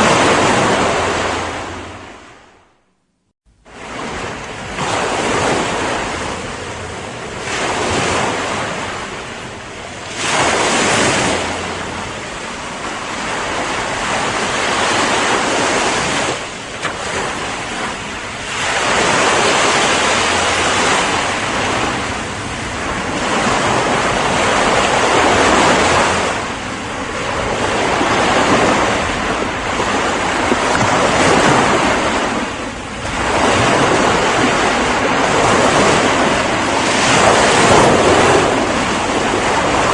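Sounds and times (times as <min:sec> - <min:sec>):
wind on microphone: 0:00.0 - 0:02.5, 0:03.6 - 0:39.9
ocean waves breaking: 0:00.0 - 0:02.7, 0:03.5 - 0:39.9.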